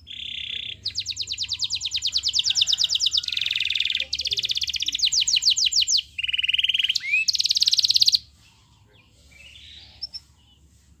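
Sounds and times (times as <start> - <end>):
canary singing: 0.0 - 10.8.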